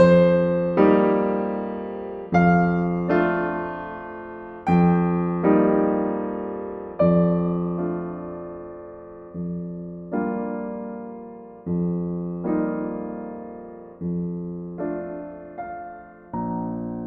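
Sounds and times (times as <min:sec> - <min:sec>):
slow solo piano chords: 0:00.0 - 0:17.0.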